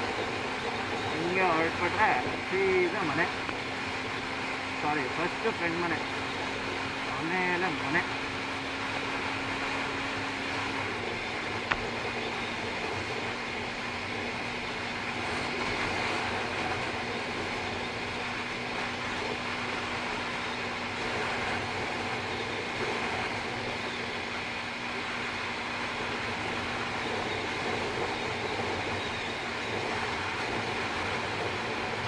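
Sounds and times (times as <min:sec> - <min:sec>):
motorcycle engine drone: 0:00.0 - 0:32.0.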